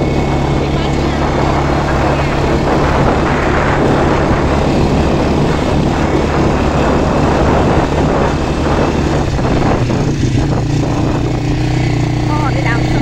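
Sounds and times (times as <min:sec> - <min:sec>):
continuous rushing noise: 0:00.0 - 0:13.0
quad bike engine running: 0:00.0 - 0:13.0.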